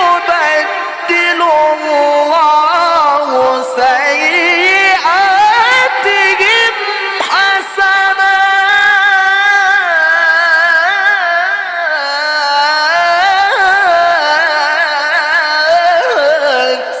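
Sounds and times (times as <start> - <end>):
man chanting melismatically: 0.0 - 17.0.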